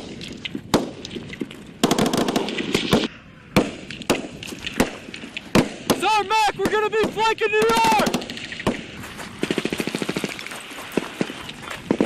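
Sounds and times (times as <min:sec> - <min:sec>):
gunshots: 0:00.0 - 0:01.1, 0:01.8 - 0:12.0.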